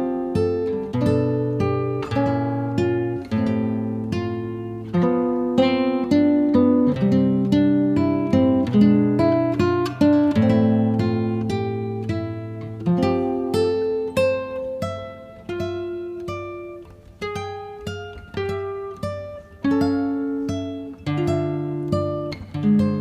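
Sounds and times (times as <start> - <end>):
acoustic guitar picking: 0.0 - 23.0.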